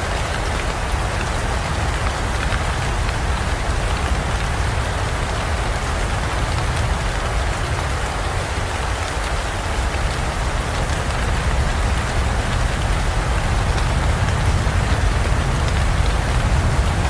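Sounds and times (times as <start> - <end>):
heavy rain in a forest: 0.0 - 17.0.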